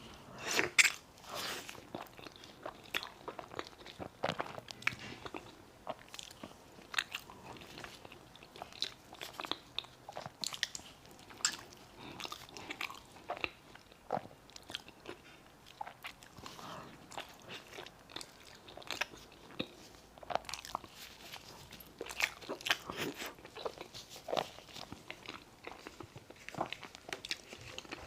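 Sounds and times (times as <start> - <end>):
person chewing cake: 0.1 - 28.0.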